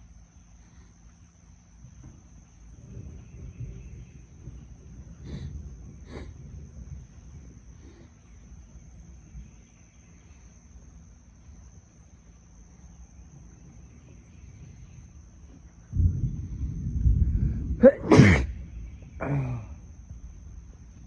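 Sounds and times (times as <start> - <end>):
faint low rumble: 0.0 - 21.0
insects droning: 0.0 - 21.0.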